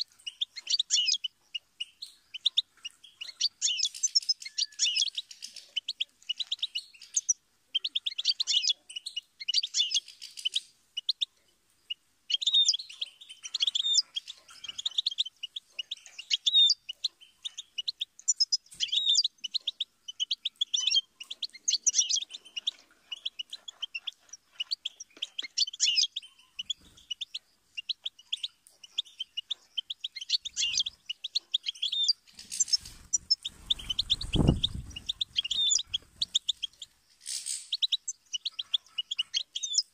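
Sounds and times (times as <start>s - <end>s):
bird twittering and trilling: 0.0s - 39.9s.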